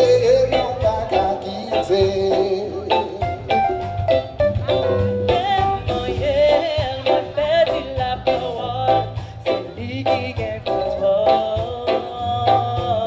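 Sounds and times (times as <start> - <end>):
bass line: 0.0 - 13.0
drum beats: 0.0 - 13.0
person singing with vibrato: 0.0 - 13.0.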